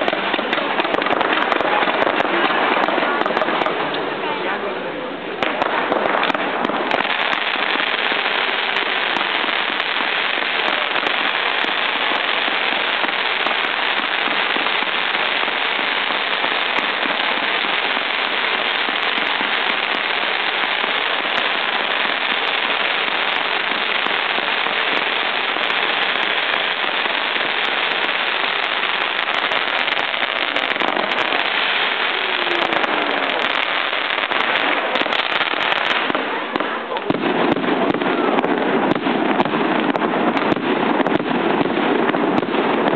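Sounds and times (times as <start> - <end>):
firecrackers: 0.0 - 42.9
fireworks shells bursting: 5.4 - 42.9.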